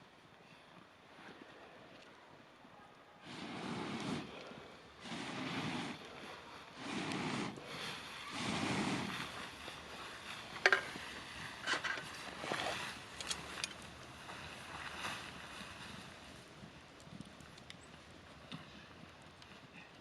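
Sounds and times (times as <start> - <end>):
campfire burning: 0.0 - 20.0
wind gusts: 0.0 - 20.0
burning wood crackling and popping: 3.2 - 20.0.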